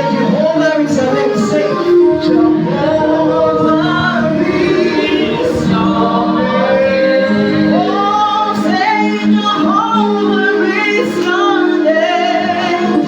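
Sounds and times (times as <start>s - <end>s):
group singing worship song: 0.0s - 13.0s
instrumental backing: 0.0s - 13.0s.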